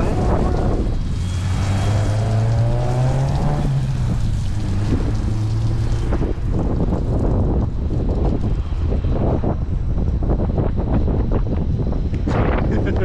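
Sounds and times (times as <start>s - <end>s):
engine humming: 0.0s - 13.0s
wind rumbling on microphone: 0.0s - 13.0s.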